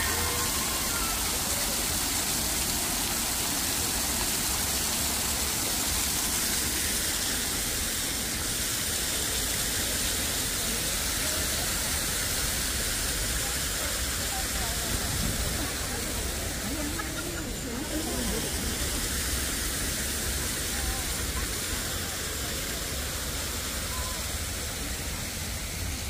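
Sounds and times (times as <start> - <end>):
waterfall rushing into pool: 0.0 - 26.0.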